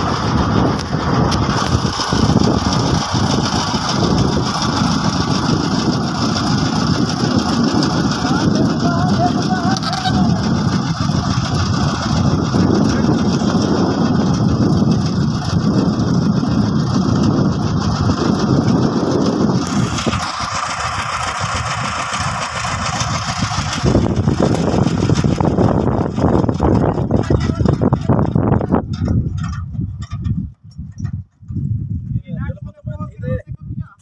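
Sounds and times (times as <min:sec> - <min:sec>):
heavy engine running: 0:00.0 - 0:32.1.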